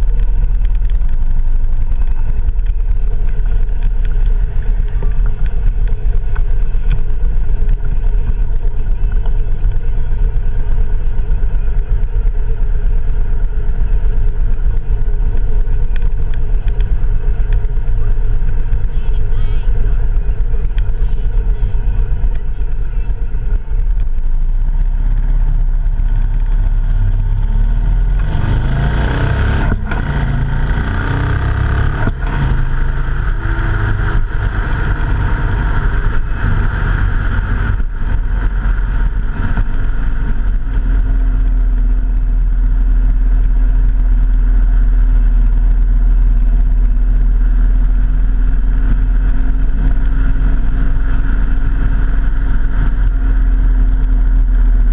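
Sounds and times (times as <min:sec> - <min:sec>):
heavy low rumble: 0:00.0 - 0:54.9
vehicle engine running: 0:00.0 - 0:54.9.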